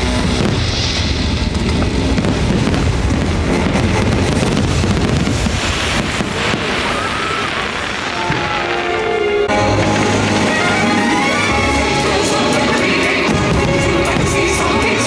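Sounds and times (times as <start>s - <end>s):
fireworks booming: 0.0s - 15.0s
fireworks crackling: 0.0s - 15.0s.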